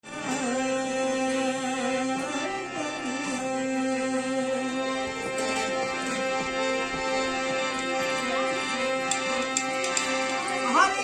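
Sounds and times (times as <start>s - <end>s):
wavering instrumental melody: 0.2s - 11.0s
held drone note: 0.4s - 11.0s.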